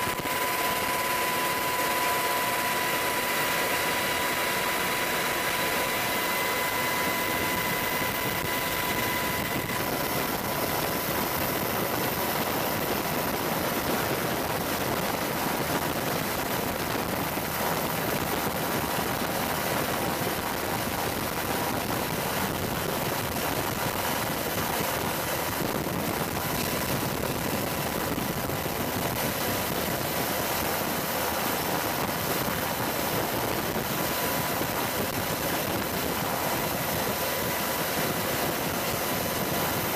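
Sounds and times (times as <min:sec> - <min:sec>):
helicopter engine and rotor noise: 0:00.0 - 0:39.9
high whine: 0:00.0 - 0:39.9.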